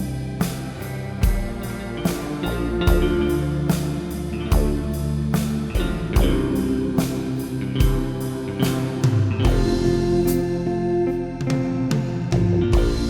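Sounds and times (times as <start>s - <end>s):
drum beat: 0.0s - 10.7s, 11.5s - 13.0s
electronic keyboard melody: 0.0s - 13.0s.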